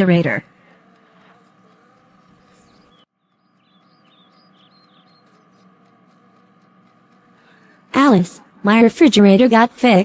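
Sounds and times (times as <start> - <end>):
small birds chirping: 0.0 - 8.6
faint background ambience: 0.0 - 10.0.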